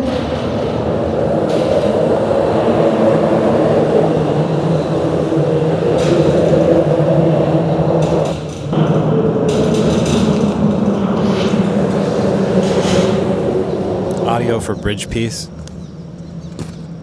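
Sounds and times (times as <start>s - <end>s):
constant low drone: 0.0s - 16.4s
vehicles passing on a bridge: 0.0s - 16.5s.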